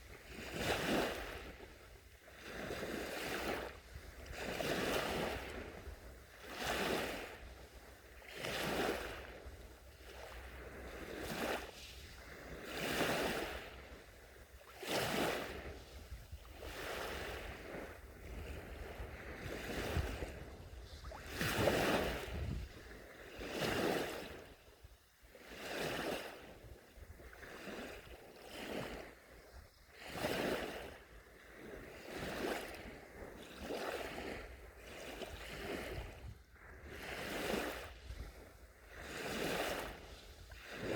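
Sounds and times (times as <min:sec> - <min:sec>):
small waves breaking on beach: 0:00.0 - 0:40.9.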